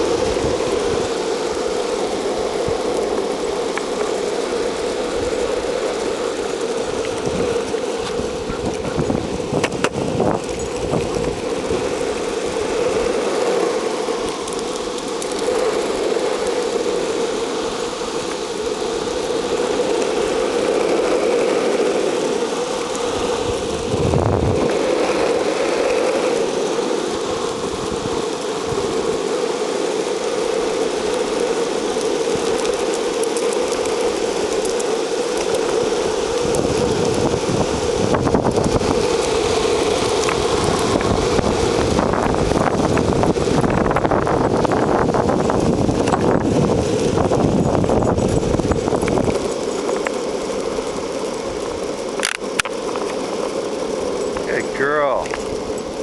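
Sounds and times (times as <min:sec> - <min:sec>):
skateboard wheels rolling on pavement: 0:00.0 - 0:56.0.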